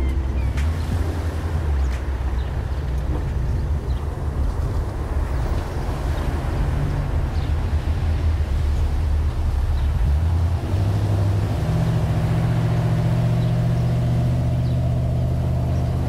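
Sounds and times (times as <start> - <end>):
car engine rumbling: 0.0 - 16.0
road noise: 0.0 - 16.0.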